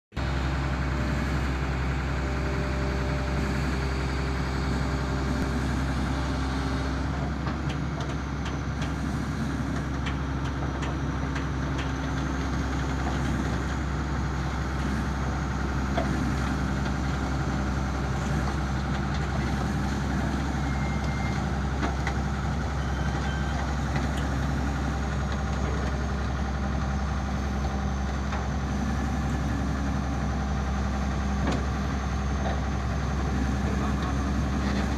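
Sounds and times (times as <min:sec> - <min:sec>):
diesel excavator engine idling: 0:00.1 - 0:34.9.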